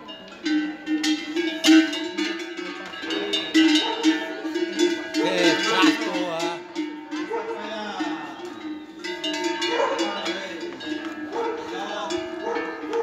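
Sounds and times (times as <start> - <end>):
cattle bells clanging: 0.0 - 13.0.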